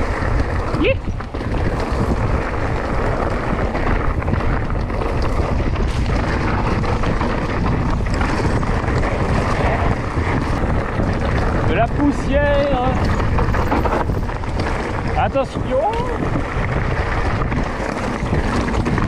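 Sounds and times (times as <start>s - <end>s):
bike rattles and knocks: 0.0s - 19.0s
tyres rolling over stony trail: 0.0s - 19.0s
wind buffeting microphone: 0.0s - 19.0s.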